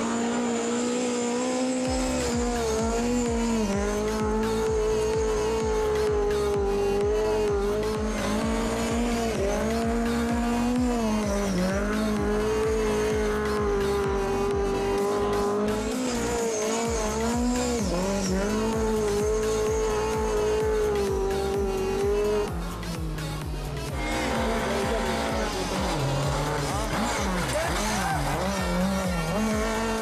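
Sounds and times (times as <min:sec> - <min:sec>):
car engine at high revs: 0:00.0 - 0:30.0
music with steady beat: 0:01.9 - 0:30.0.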